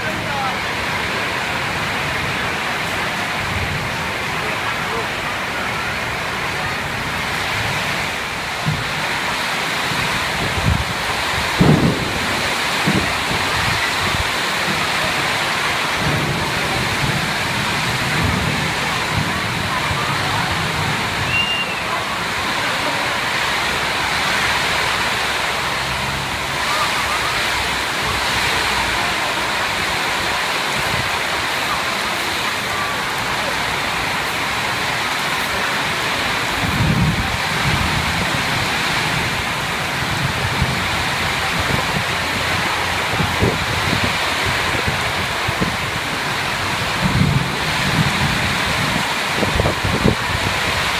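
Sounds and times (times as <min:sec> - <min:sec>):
heavy rain pouring: 0:00.0 - 0:50.9
rumbling wind gusts: 0:00.0 - 0:50.9.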